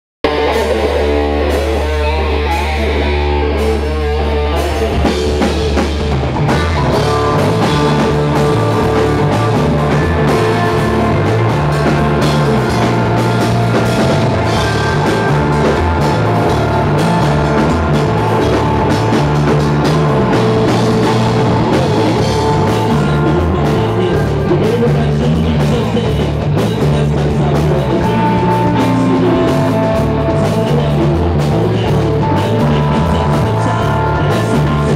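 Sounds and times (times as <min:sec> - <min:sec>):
bass guitar: 0:00.0 - 0:34.9
drum kit: 0:00.2 - 0:34.9
electric guitar: 0:00.2 - 0:34.9.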